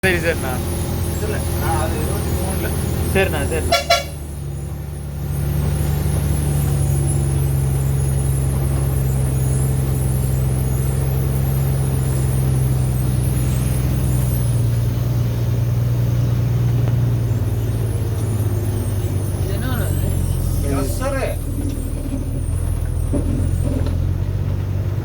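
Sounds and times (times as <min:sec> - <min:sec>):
heavy diesel truck engine running: 0:00.0 - 0:25.0.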